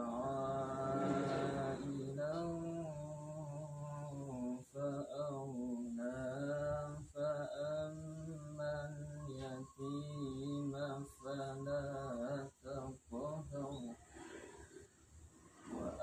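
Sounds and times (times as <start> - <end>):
man reciting melodically: 0.0 - 14.1, 15.7 - 16.0.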